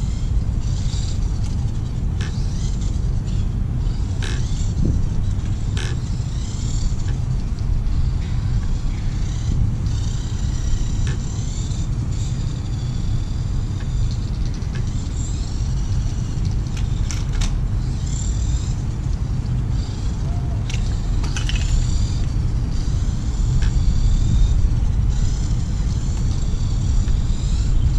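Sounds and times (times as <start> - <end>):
heavy low rumble: 0.0 - 27.9
small electric motor whining: 0.0 - 27.9.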